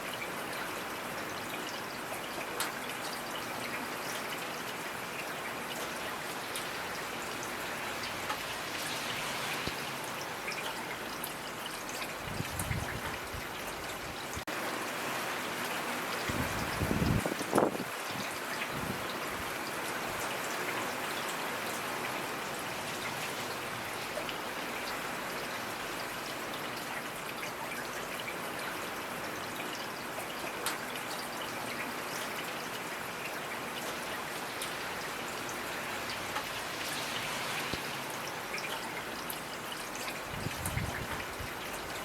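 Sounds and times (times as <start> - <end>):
steady rainfall: 0.0 - 42.0.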